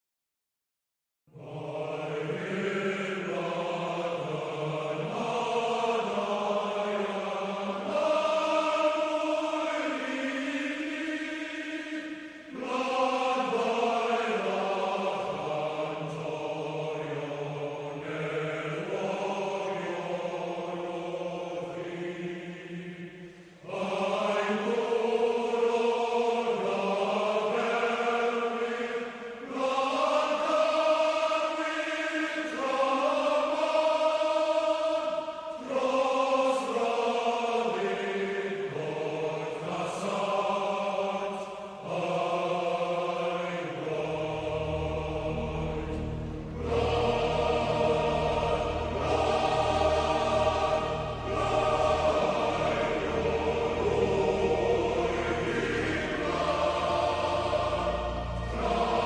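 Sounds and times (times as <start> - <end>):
choir singing: 1.3 - 59.0.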